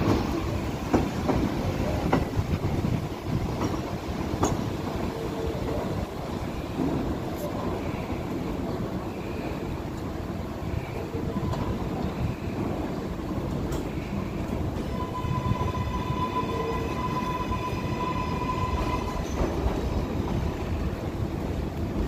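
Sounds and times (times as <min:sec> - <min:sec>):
high train whine: 0:00.0 - 0:22.0
train wheels rumbling on rails: 0:00.0 - 0:22.0.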